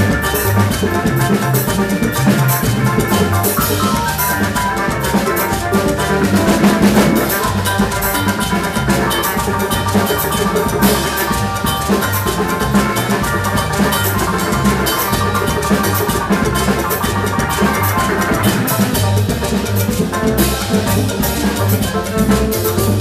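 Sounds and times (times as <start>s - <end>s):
bass line: 0.0s - 23.0s
drums and percussion groove: 0.0s - 23.0s
melodic instruments: 1.3s - 21.6s.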